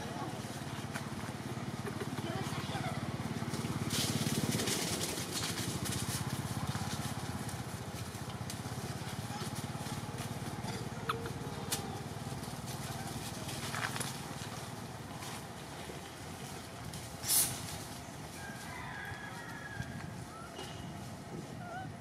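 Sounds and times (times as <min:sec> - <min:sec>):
low motor rumble: 0:00.0 - 0:22.0.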